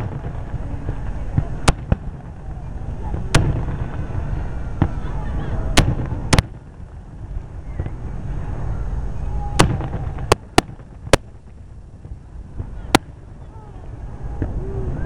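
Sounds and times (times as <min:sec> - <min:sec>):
fireworks bursting with sharp bangs: 0:00.0 - 0:08.7, 0:09.4 - 0:13.6
low rumble: 0:00.0 - 0:15.0.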